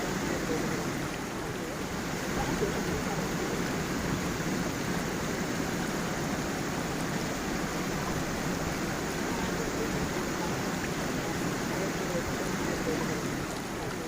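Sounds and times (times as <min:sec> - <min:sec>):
waterfall and stream rushing: 0:00.0 - 0:14.0.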